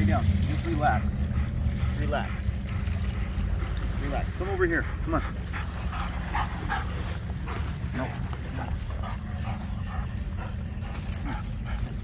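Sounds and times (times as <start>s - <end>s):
steady low rumble: 0.0s - 12.0s
dog panting: 0.6s - 12.0s.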